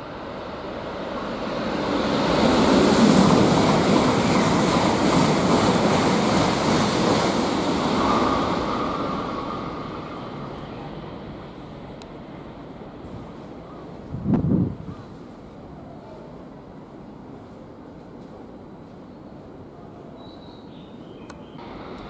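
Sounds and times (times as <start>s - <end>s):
high-speed train rushing past: 0.0s - 20.1s, 20.9s - 22.0s.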